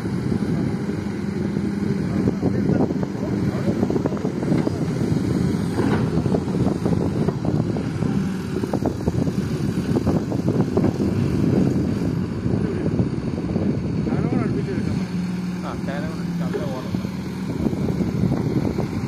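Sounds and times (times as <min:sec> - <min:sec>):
excavator diesel engine running: 0:00.0 - 0:19.0
wind buffeting microphone: 0:00.0 - 0:19.0.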